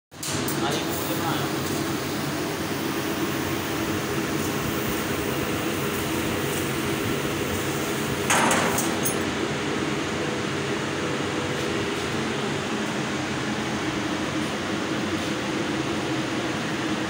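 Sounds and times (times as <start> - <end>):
laser cutting machine humming: 0.5 - 17.0.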